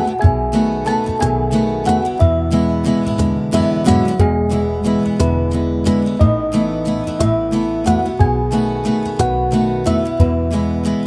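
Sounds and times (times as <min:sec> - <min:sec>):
strummed acoustic guitar music: 0:00.0 - 0:11.0.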